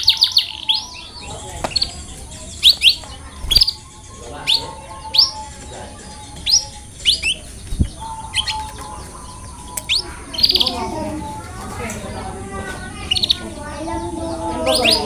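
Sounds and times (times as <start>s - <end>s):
canary chirping: 0.0s - 15.0s.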